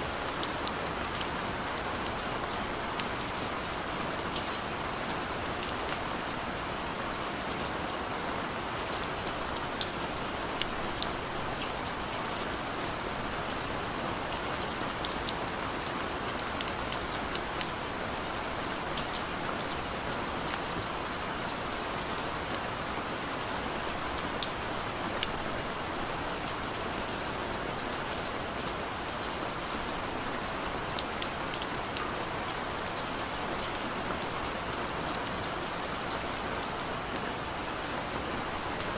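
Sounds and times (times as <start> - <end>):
rain drops ticking on a surface: 0.0 - 38.9.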